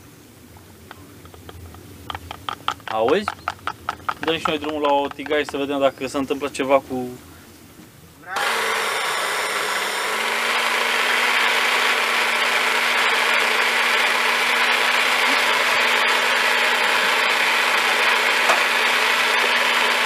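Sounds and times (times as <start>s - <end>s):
immersion blender whirring: 1.2s - 5.8s, 8.3s - 20.0s.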